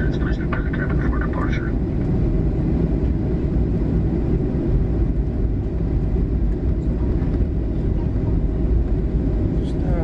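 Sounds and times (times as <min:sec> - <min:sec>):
jet engines low rumble: 0:00.0 - 0:10.0
wheels rolling on taxiway: 0:00.0 - 0:10.0.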